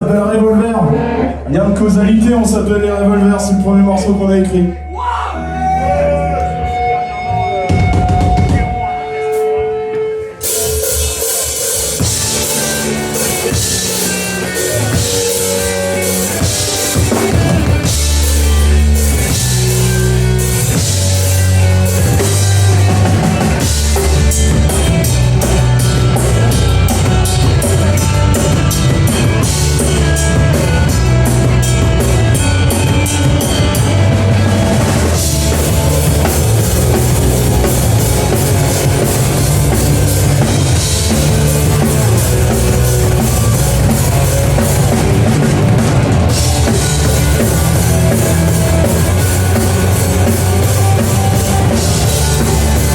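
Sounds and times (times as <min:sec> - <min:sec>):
bass line: 0:00.0 - 0:52.9
rock band playing live: 0:00.0 - 0:52.9
driving drum kit: 0:06.7 - 0:52.9.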